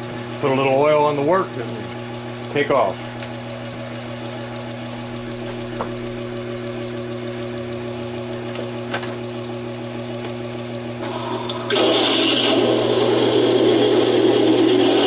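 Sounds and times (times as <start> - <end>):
lathe motor hum: 0.0 - 15.0.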